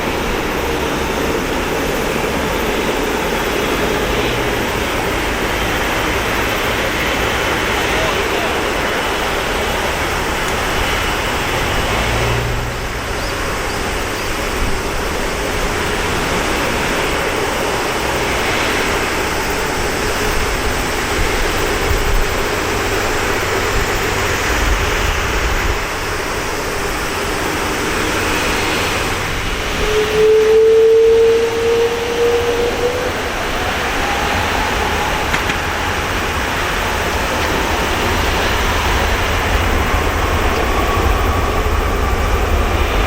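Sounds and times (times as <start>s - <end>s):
jet engines roaring: 0.0s - 43.0s.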